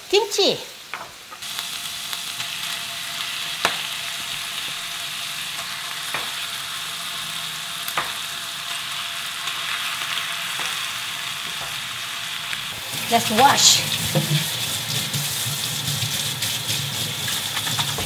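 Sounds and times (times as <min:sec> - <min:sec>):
meat sizzling in a frying pan: 0:00.2 - 0:18.0.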